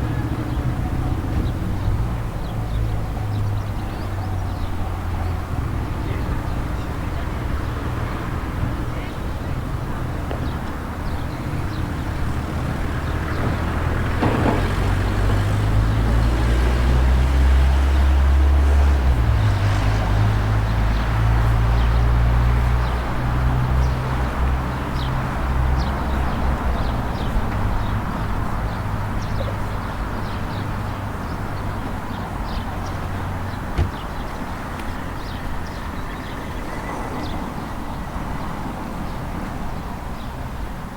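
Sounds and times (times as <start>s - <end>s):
street background noise: 0.0s - 40.9s.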